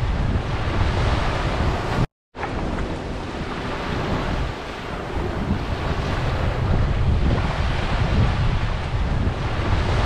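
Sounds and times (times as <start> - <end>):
wind rumbling on microphone: 0.0 - 10.0
small waves washing onto sand: 0.4 - 10.0.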